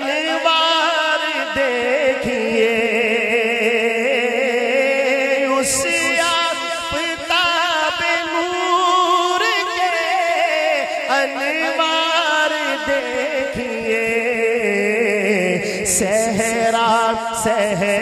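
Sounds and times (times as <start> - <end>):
man singing: 0.0 - 18.0.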